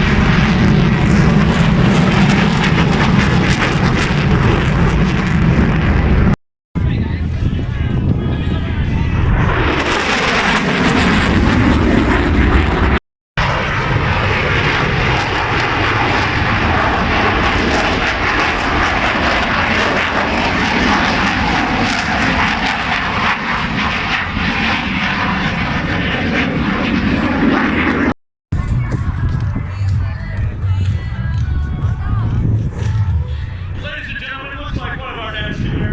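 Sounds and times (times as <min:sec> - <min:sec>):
airplane engine flying by: 0:00.0 - 0:35.9.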